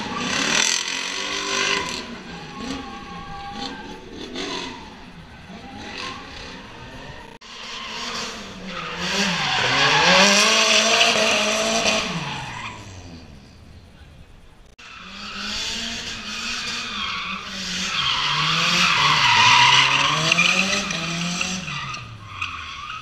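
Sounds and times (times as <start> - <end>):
tyres squealing: 0.0 - 13.6, 16.6 - 23.0
car engine revving: 0.0 - 23.0.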